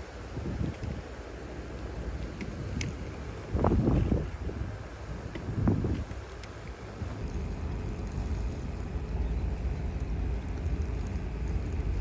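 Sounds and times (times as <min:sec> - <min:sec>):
faint steady hum: 0:00.0 - 0:12.0
road or wind noise: 0:00.0 - 0:12.0
vehicle engine rumble: 0:00.0 - 0:12.0.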